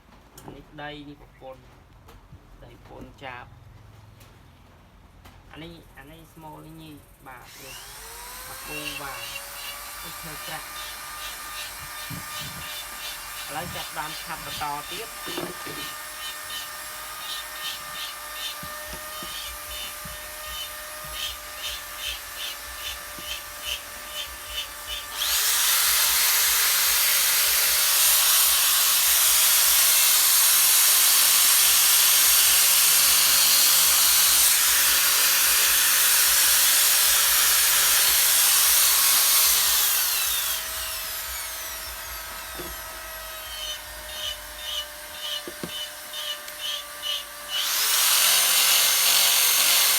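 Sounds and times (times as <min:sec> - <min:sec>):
power sander on wood: 0:07.5 - 0:49.9.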